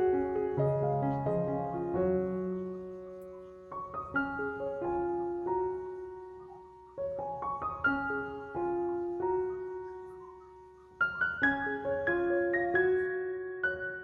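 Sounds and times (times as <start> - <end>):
gentle solo piano: 0.0 - 14.0.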